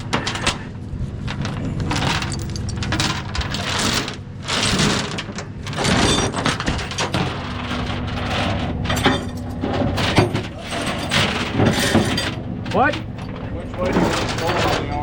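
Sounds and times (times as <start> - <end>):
chains rattling and clinking: 1.3 - 15.0.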